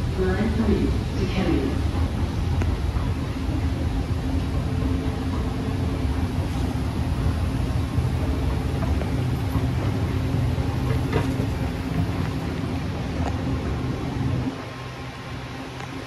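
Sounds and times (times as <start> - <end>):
escalator rumble: 0.0 - 16.0.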